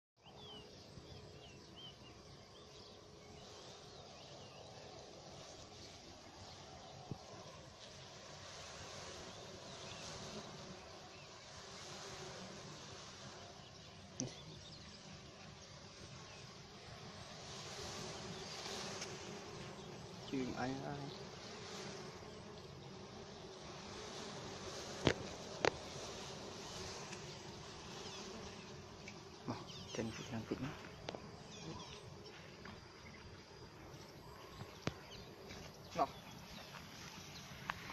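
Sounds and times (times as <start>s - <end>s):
bees buzzing: 0.2s - 37.9s
low rumbling hiss: 0.2s - 37.9s
small birds chirping: 0.2s - 37.9s.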